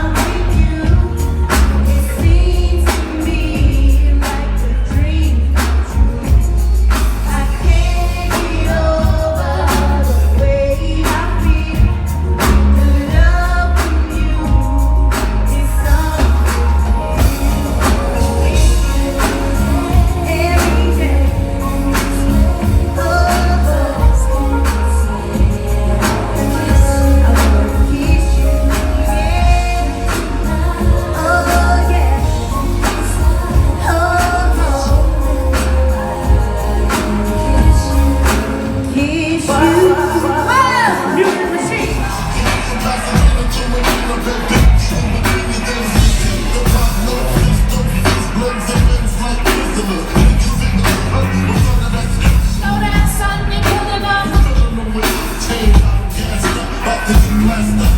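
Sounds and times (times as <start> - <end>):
heavy bass line: 0.0 - 57.9
live music through pa system: 0.0 - 57.9
person singing: 0.0 - 57.9.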